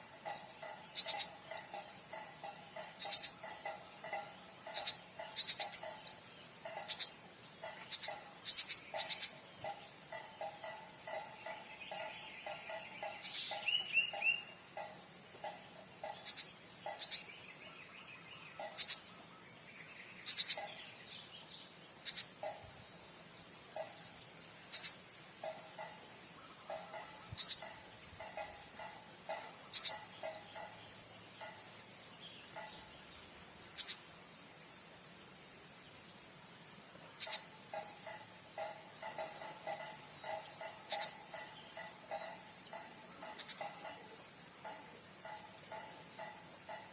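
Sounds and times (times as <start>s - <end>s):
high-pitched insect drone: 0.0s - 34.8s, 35.4s - 46.9s.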